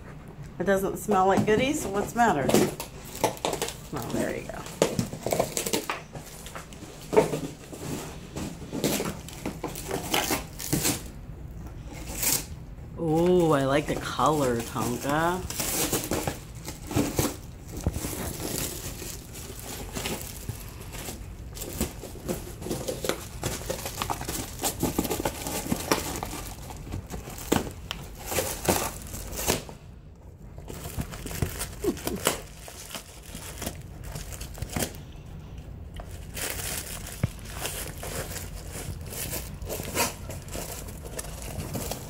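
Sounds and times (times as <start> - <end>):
dog ripping cardboard: 2.4 - 11.1, 14.4 - 29.7, 30.6 - 35.0, 36.0 - 42.0.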